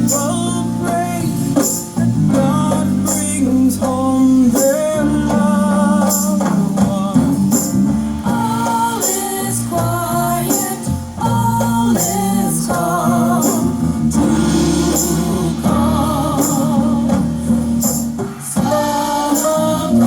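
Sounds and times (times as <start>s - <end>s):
bass accompaniment: 0.0s - 20.0s
person singing with vibrato: 0.0s - 20.0s
tambourine strikes: 0.0s - 20.0s.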